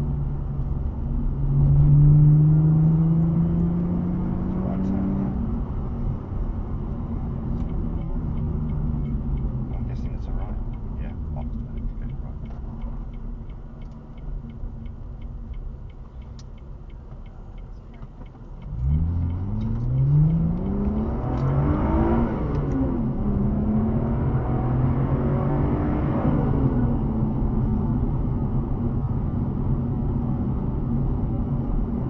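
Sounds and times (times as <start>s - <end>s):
sports car engine revving: 0.0s - 14.8s, 18.0s - 32.0s.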